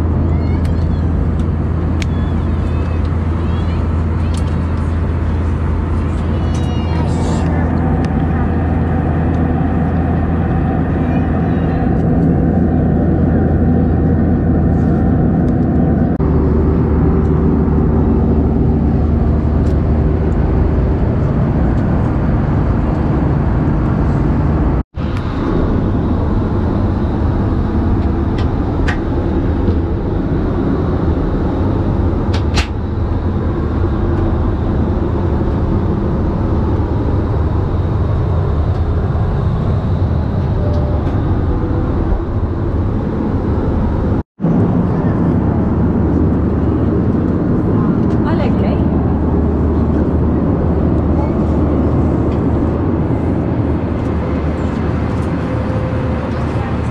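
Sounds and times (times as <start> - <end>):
vehicle rumble: 0.0 - 56.9.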